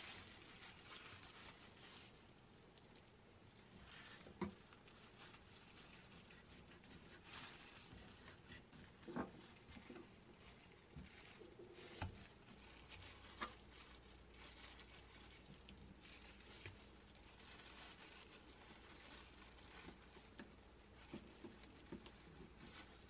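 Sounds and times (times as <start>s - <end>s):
plastic gloves crinkling: 0.0s - 23.0s.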